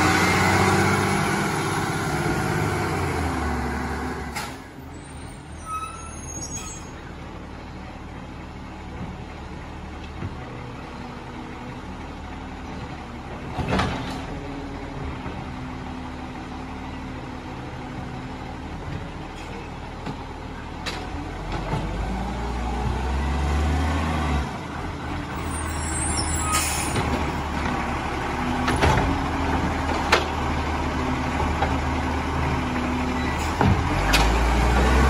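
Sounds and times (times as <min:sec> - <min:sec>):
rubbish truck engine running: 0:00.0 - 0:35.0.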